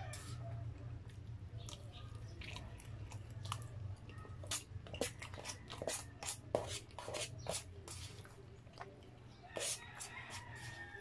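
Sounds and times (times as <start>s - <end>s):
person chewing food: 0.6s - 11.0s.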